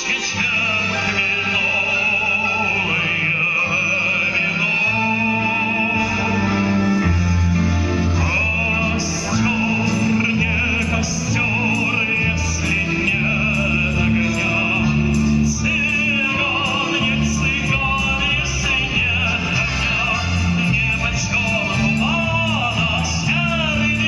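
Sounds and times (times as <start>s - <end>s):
accordion playing: 0.0s - 24.0s
man singing: 0.0s - 24.0s.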